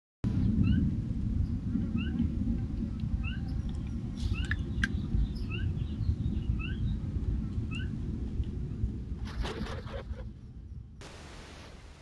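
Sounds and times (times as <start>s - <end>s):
steady low rumble: 0.2s - 12.0s.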